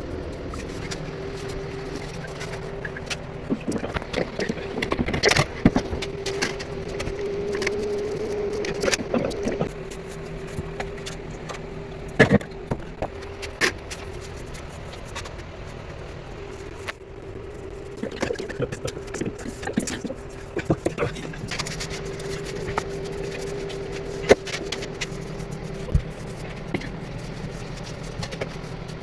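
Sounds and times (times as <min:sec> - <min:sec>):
small motor humming: 0:00.0 - 0:29.0.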